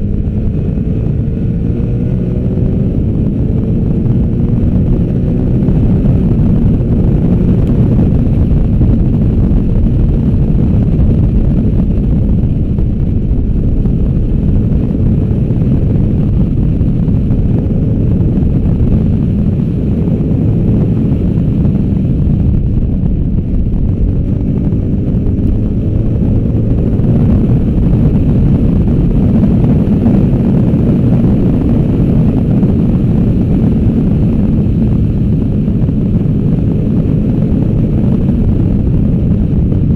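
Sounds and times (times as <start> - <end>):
motorcycle engine revving: 0.0 - 39.9
wind on microphone: 0.0 - 39.9.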